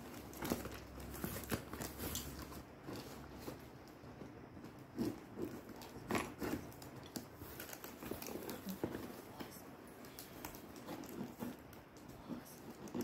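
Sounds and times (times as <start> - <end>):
cardboard scraping and crinkling: 0.0 - 9.6, 10.2 - 13.0.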